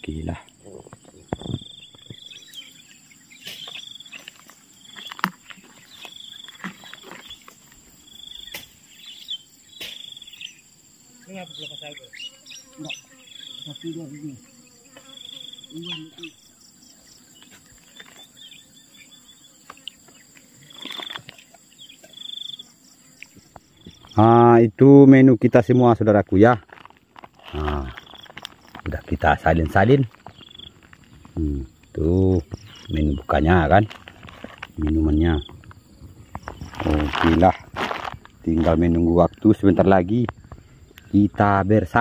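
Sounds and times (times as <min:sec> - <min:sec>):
insect chirping: 0:00.0 - 0:42.0.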